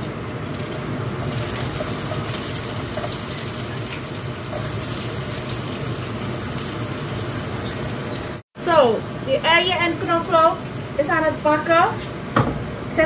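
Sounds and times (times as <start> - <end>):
onion sizzling in hot oil: 0.7 - 12.2.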